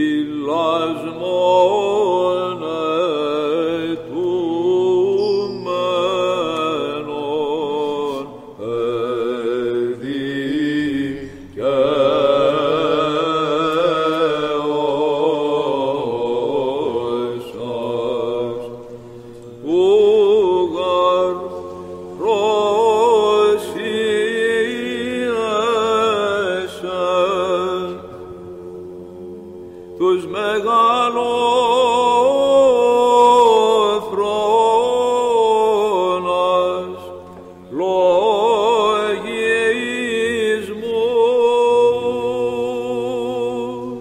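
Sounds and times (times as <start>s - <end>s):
held vocal drone: 0.0s - 44.0s
men chanting ornamented melody: 0.0s - 44.0s.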